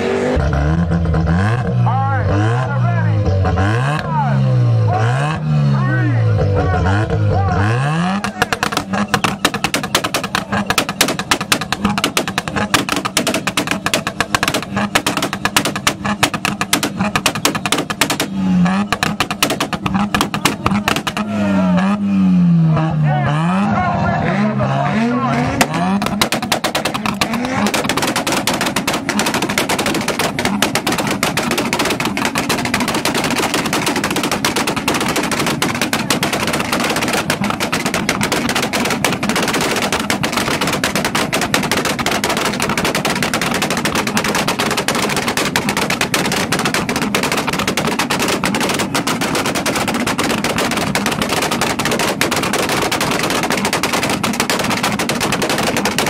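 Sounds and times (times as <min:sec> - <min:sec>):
exhaust backfire pops and bangs: 0:00.0 - 0:56.0.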